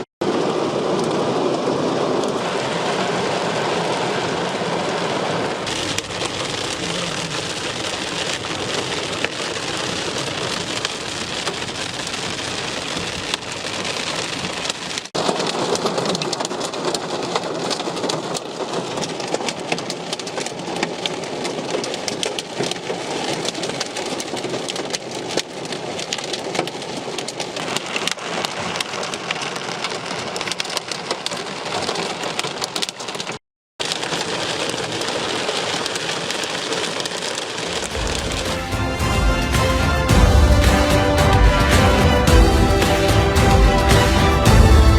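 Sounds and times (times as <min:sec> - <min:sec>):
heavy rain drumming: 0:00.0 - 0:33.2, 0:33.8 - 0:44.9.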